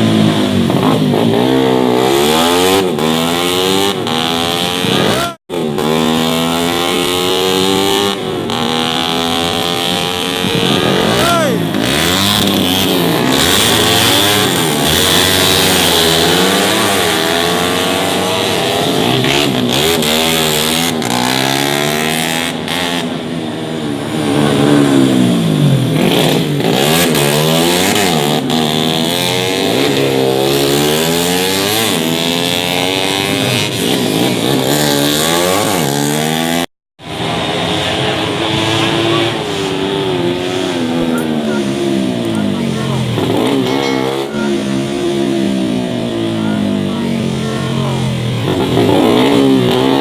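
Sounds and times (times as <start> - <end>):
racing motorcycles passing: 0.0 - 50.0.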